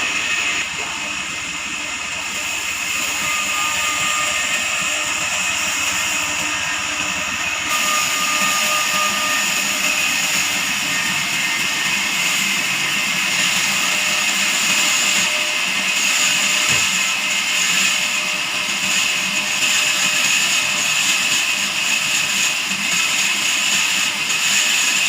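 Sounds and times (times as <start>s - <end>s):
band saw cutting log: 0.0s - 25.0s.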